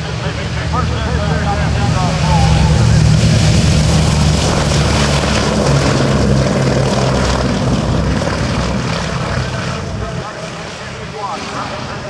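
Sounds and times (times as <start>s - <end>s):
piston aircraft engines droning: 0.0s - 12.0s.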